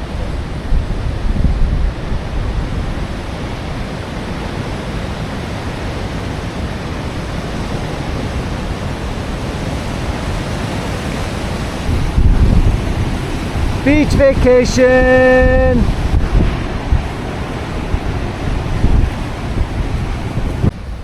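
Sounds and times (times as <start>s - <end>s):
waves breaking in rough surf: 0.0s - 21.0s.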